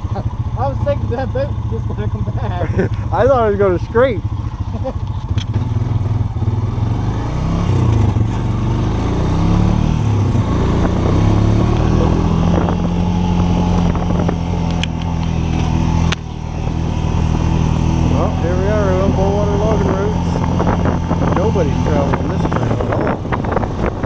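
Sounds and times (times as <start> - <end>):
off-road vehicle engine: 0.0 - 24.0.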